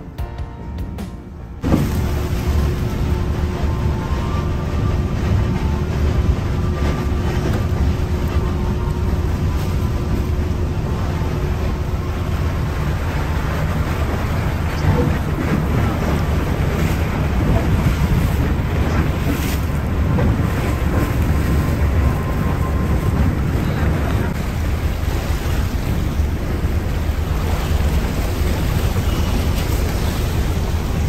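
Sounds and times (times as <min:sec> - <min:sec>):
ship engine running: 0:00.0 - 0:31.0
hull pushing through ice floes: 0:01.6 - 0:31.0
wind on microphone: 0:01.6 - 0:31.0.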